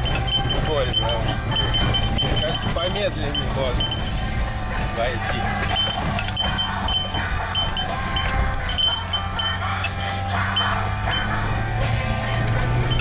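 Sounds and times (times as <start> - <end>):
low hum: 0.0 - 13.0
small metallic chimes tinkling: 0.0 - 13.0.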